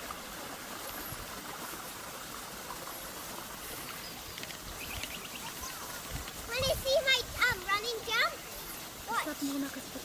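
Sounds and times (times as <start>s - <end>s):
water trickling in a stream: 0.0s - 10.0s.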